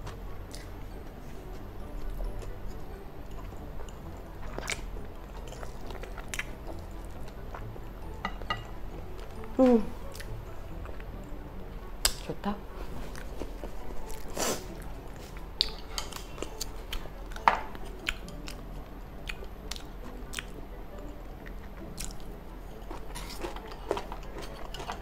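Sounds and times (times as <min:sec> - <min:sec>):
person chewing food: 0:00.0 - 0:12.2, 0:13.1 - 0:25.0.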